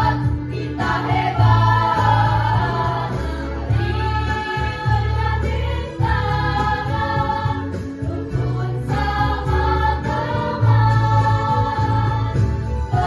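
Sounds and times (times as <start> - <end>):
choir singing chords: 0.0 - 13.0.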